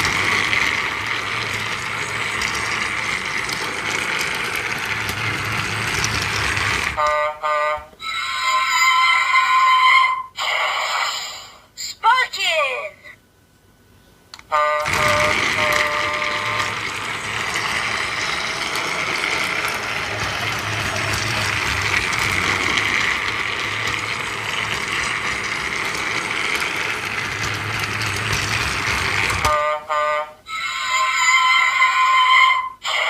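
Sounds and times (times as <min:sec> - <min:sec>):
toy train motor whirring: 0:00.0 - 0:07.3, 0:08.0 - 0:11.0, 0:14.4 - 0:29.8, 0:30.5 - 0:33.0.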